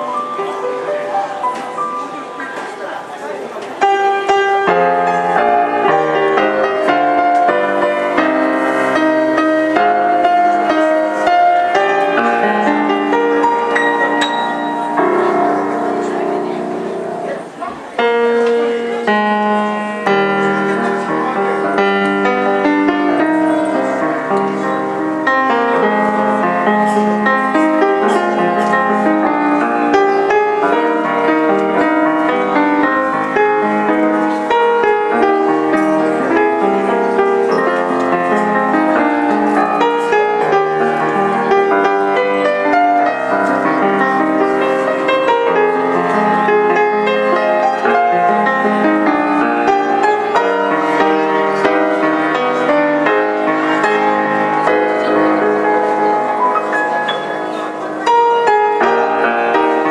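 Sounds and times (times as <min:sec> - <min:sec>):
piano piece: 0:00.0 - 0:59.9.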